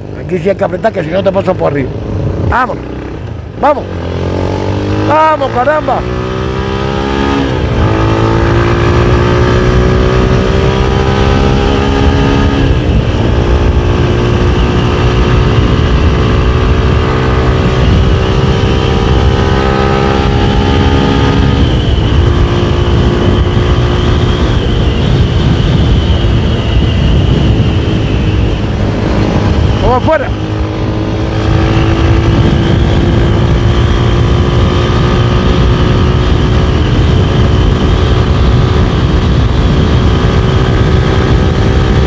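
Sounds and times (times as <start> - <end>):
wind rush: 0.0 - 42.0
motorcycle engine revving: 1.3 - 42.0.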